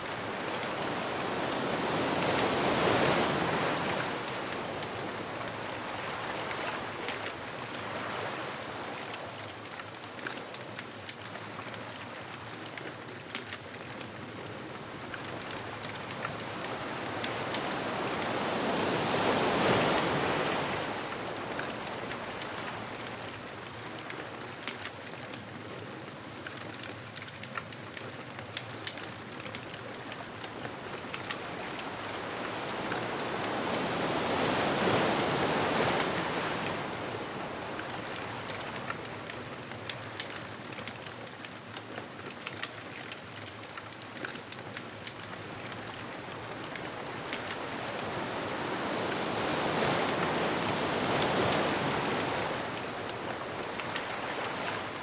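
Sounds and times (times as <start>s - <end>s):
ocean waves washing ashore: 0.0s - 55.0s
bonfire crackling: 0.1s - 55.0s.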